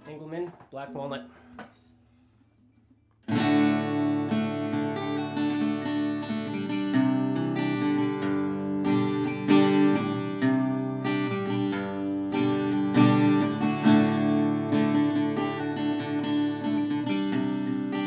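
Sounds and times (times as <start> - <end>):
acoustic guitar strummed: 3.0 - 18.0.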